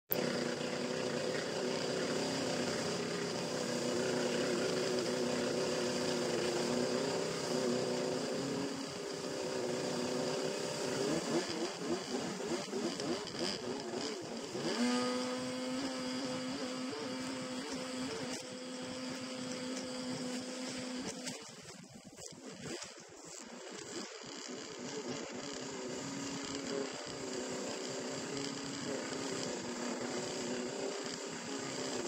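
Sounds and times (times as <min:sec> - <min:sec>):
jet ski engine revving: 0:00.1 - 0:32.0.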